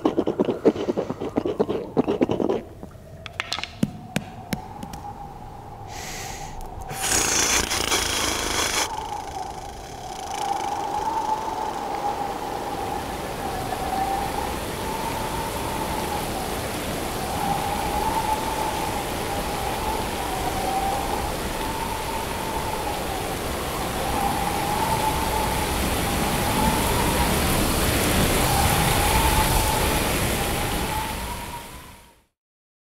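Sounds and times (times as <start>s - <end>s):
rain: 0.0s - 32.3s.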